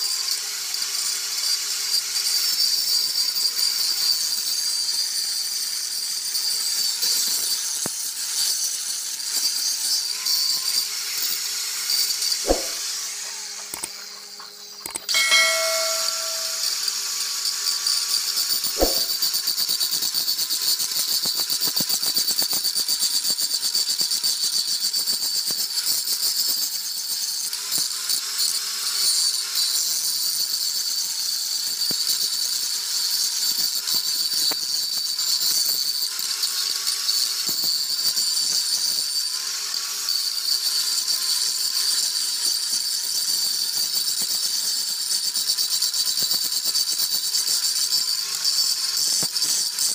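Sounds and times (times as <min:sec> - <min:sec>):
electric grinder grinding metal: 0:00.0 - 0:49.9.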